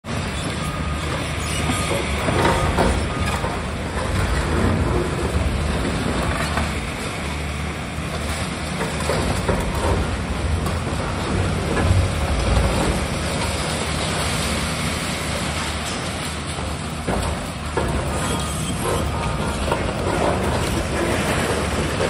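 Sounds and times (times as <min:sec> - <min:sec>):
excavator diesel engine running: 0:00.1 - 0:22.0.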